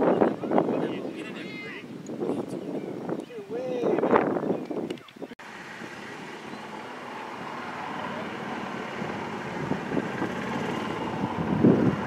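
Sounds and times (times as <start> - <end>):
low wind gusts: 0.0 - 12.0
wind on microphone: 0.0 - 12.0.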